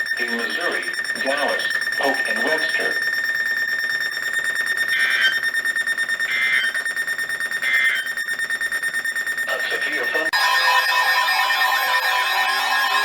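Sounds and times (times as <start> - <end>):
rapidly pulsing high tone: 0.0 - 13.0
screeching data bursts: 0.0 - 13.0.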